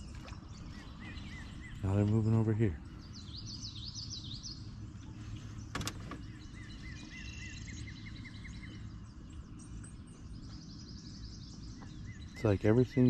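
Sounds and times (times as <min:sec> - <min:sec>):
songbirds singing: 0:00.0 - 0:13.0
steady low rumble: 0:00.0 - 0:13.0.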